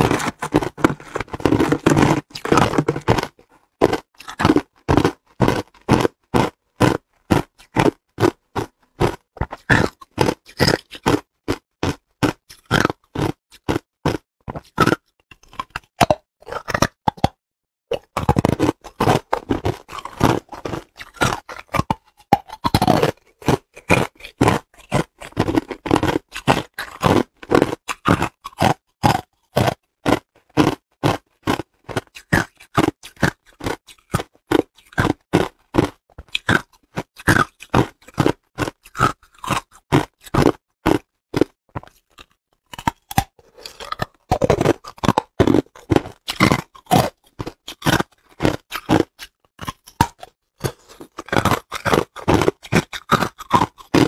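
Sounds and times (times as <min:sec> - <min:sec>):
ice crunching being chewed: 0:00.0 - 0:54.0.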